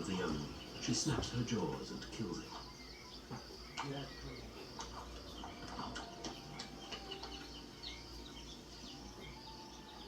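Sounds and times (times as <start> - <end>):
high chirping animal calls: 0.0 - 10.0.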